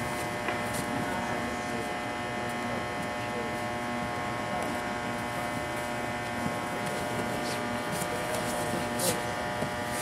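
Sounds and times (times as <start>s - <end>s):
electrical buzz: 0.0s - 10.0s.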